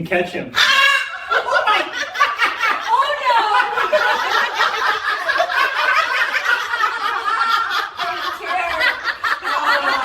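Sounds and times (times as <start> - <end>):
women laughing: 0.6 - 10.0.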